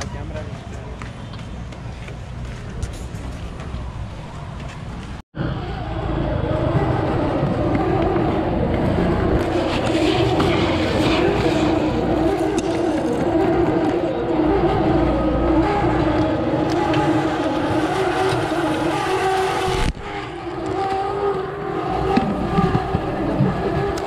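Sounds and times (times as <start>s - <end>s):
busy street noise: 0.0s - 24.0s
engine-like hum: 0.0s - 24.0s.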